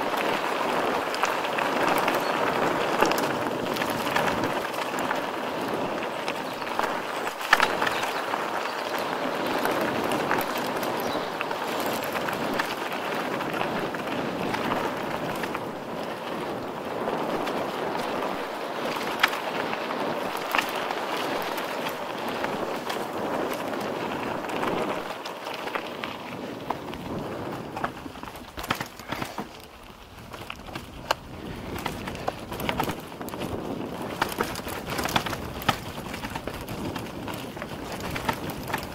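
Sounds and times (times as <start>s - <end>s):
bike rattling: 0.0s - 38.9s
bike tyres on dirt trail: 0.0s - 38.9s.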